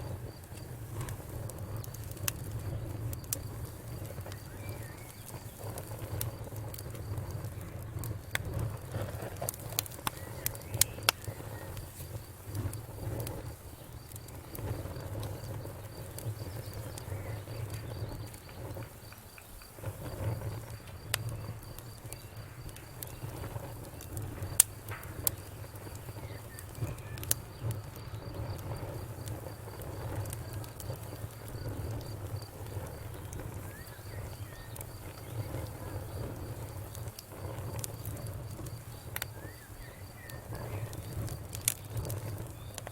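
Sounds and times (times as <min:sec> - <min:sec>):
low rumble of flames: 0:00.0 - 0:42.9
wood fire crackling: 0:00.0 - 0:42.9
faint high insect chirping: 0:02.6 - 0:08.3, 0:10.0 - 0:42.8.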